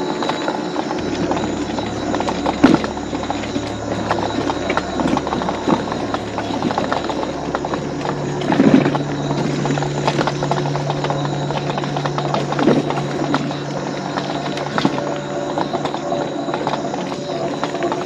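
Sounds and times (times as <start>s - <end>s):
mobility scooter motor hum: 0.0s - 18.0s.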